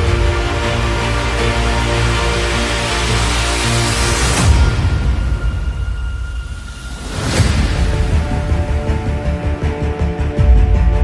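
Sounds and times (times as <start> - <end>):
low rumbling drone: 0.0 - 11.0.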